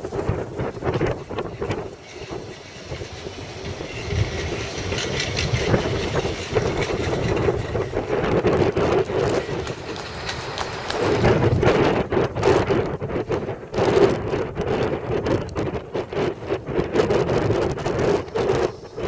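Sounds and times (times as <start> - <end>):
rail clicks: 0.0 - 19.0
tram wheels rumbling on rails: 0.0 - 19.0.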